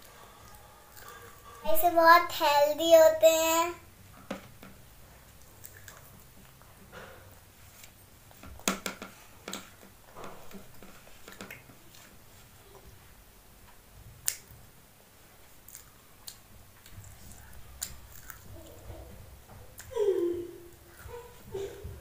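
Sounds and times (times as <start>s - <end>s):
child chewing food: 0.0s - 1.6s, 5.0s - 14.7s, 15.3s - 22.0s.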